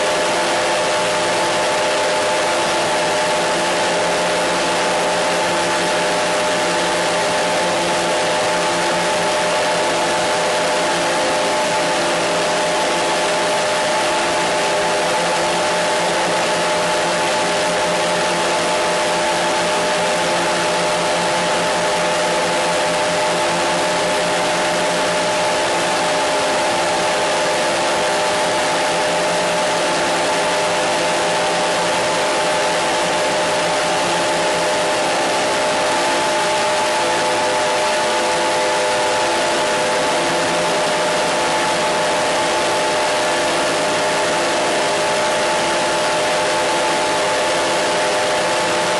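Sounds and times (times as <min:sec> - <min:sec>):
steady hum tones: 0:00.0 - 0:48.9.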